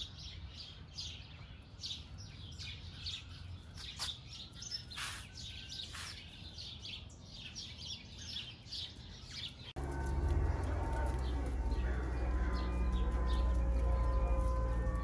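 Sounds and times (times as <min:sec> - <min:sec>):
small songbirds chirping: 0:00.0 - 0:15.0.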